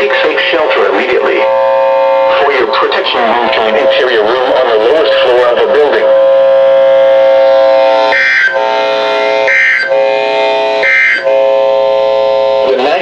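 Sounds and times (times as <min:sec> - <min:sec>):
buzzy electronic tone: 0:00.0 - 0:13.0.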